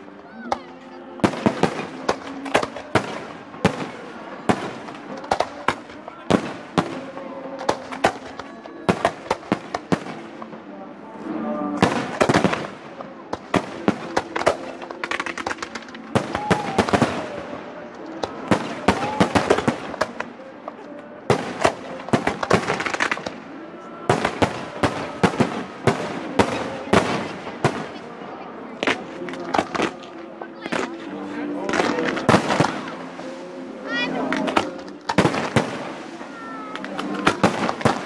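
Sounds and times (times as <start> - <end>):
fireworks bangs and crackles: 0.0 - 10.8, 11.6 - 38.0
spectators' voices: 0.0 - 38.0.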